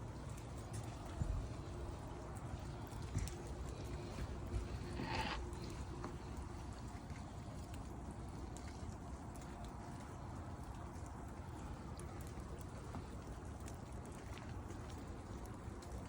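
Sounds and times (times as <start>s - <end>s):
light drips and ticks: 0.0s - 16.0s
rain and wet snow falling: 0.0s - 16.0s.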